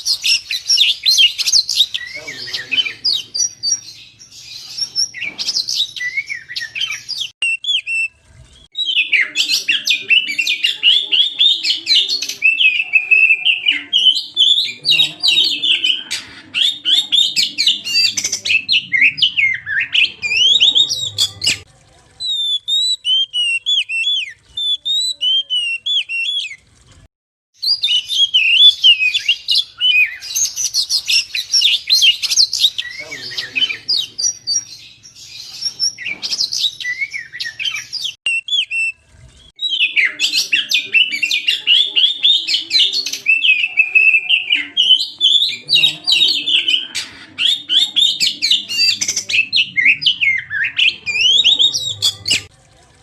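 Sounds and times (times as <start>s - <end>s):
bird singing: 0.0s - 26.6s, 27.6s - 52.5s.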